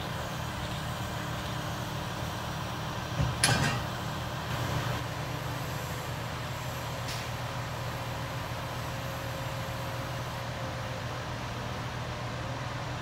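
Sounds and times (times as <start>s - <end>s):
crane diesel engine running: 0.0s - 13.0s.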